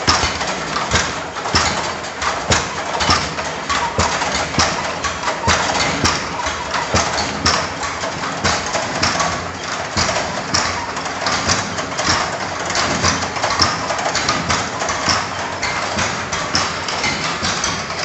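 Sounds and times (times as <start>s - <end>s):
irregular mechanical knocks: 0.0s - 18.0s
pulverizer machine clattering: 0.0s - 18.0s.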